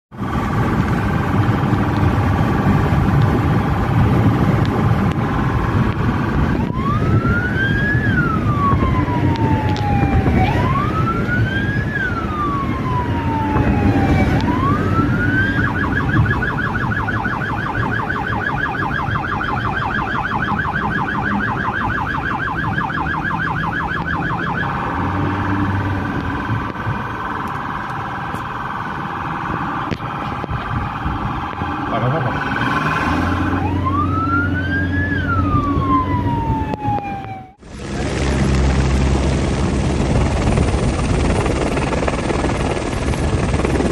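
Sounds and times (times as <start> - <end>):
engine and road noise: 0.0 - 43.9
police siren: 0.2 - 43.9.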